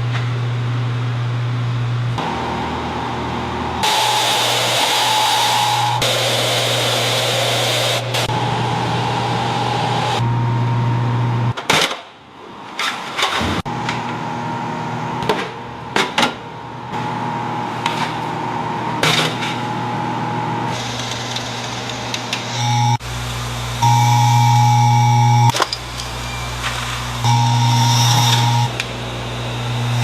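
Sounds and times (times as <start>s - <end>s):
machine hum: 0.0s - 11.6s, 13.6s - 30.0s.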